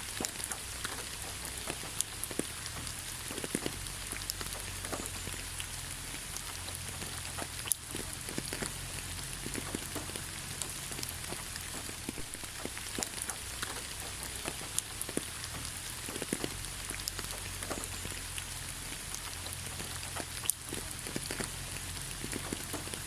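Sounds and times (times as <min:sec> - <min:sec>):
rain hissing in forest: 0:00.0 - 0:23.0
raindrops tapping: 0:00.0 - 0:23.0.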